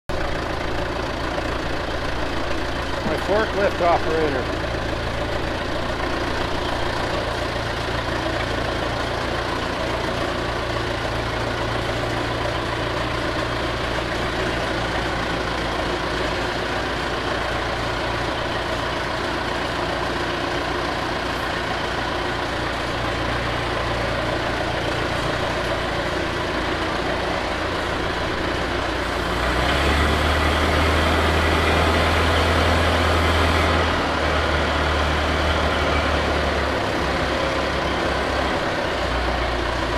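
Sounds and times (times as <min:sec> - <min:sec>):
forklift engine running: 0:00.1 - 0:39.9.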